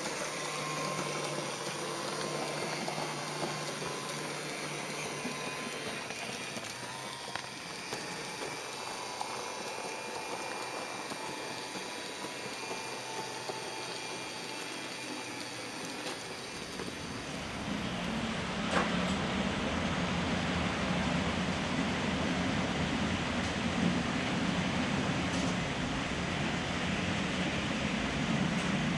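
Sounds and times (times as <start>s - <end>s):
model trains rumbling over rails: 0.0s - 28.9s.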